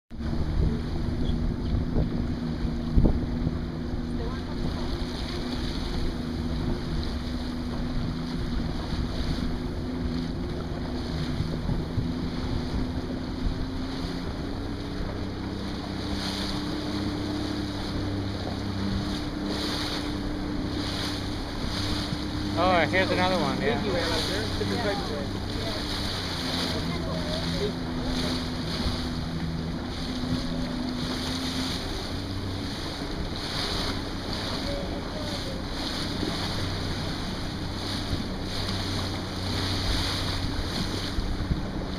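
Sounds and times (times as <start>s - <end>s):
boat engine humming: 0.1s - 41.9s
waves slapping on water: 0.1s - 41.9s
wind buffeting microphone: 0.1s - 41.9s.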